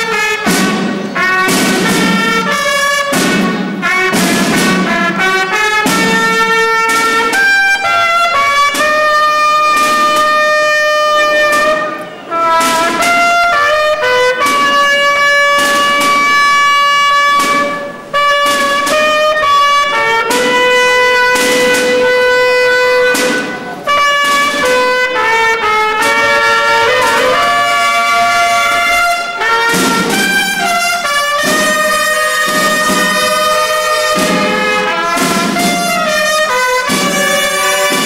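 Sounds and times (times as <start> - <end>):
bugle band playing slow melody: 0.0 - 38.0.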